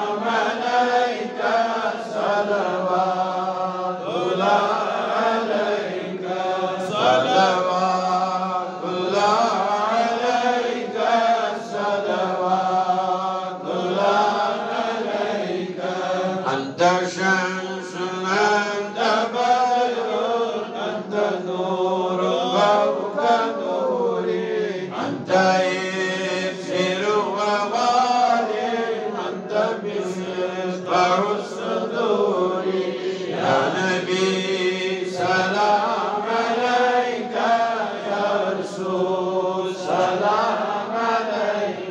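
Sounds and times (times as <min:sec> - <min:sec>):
man chanting through microphone: 0:00.0 - 0:41.9.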